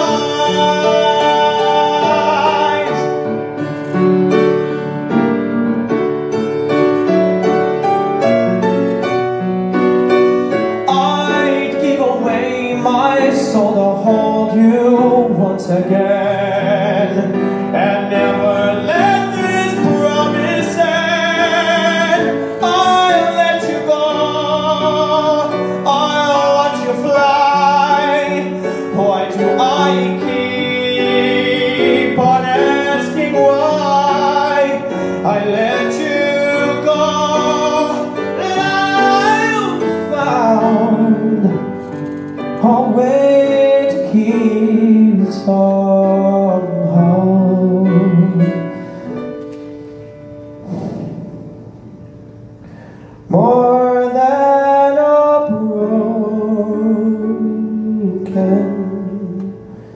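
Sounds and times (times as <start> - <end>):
man singing a ballad: 0.0 - 3.9, 10.3 - 49.3, 53.2 - 59.9
instrumental accompaniment: 0.0 - 53.3.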